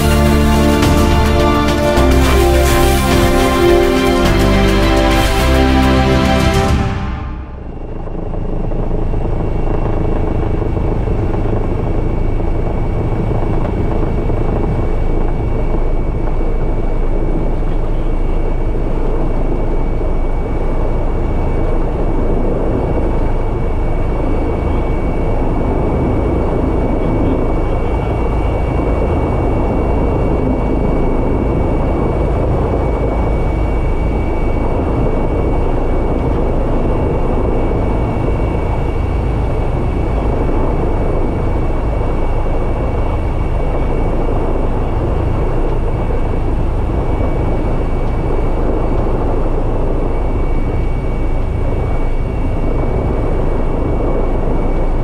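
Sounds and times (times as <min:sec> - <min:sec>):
helicopter rotor beat: 0:00.0 - 0:55.0
high-pitched turbine whine: 0:00.0 - 0:55.0.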